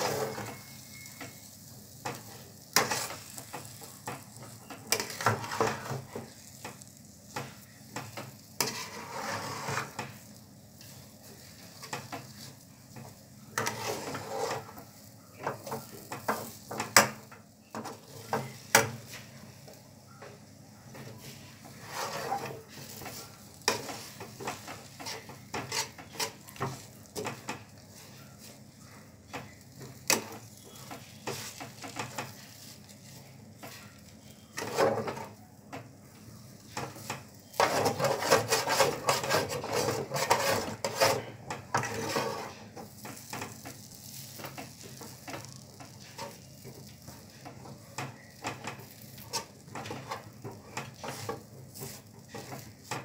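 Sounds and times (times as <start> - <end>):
spatula scraping a pan: 0.0 - 35.8, 36.5 - 53.0
soft sizzle: 0.0 - 53.0.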